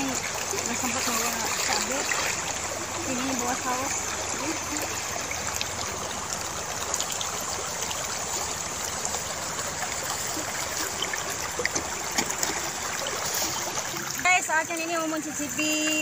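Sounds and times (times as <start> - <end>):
water running along a channel: 0.0 - 16.0.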